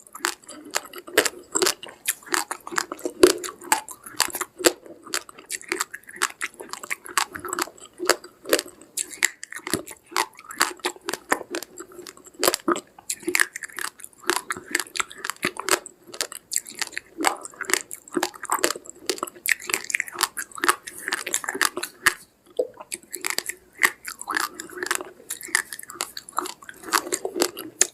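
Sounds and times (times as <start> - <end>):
person chewing rice grains: 0.0 - 27.9.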